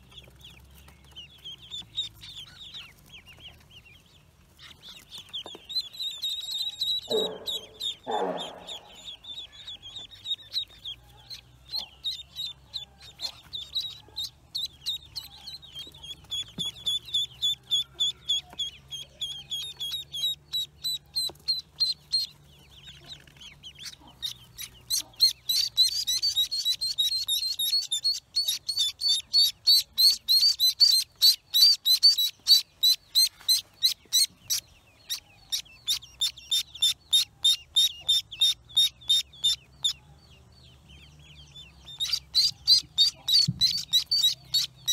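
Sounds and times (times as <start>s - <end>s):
ducklings peeping: 0.0s - 44.9s.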